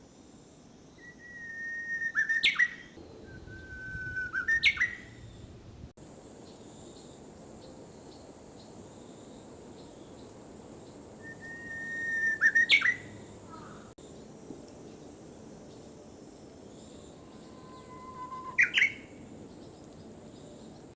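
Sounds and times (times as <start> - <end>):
bush warbler singing: 1.0 - 20.9.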